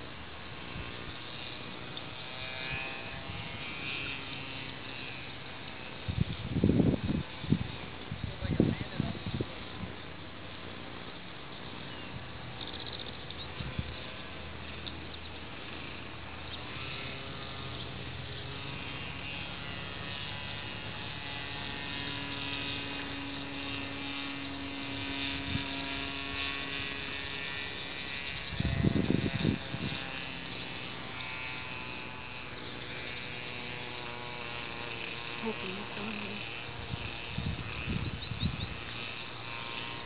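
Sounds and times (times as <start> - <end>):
steady electric buzz: 0.0 - 40.0.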